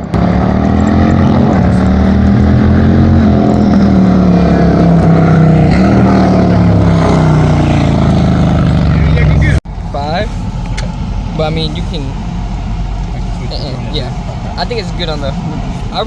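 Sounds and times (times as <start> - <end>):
car engine running loud: 0.0 - 16.0.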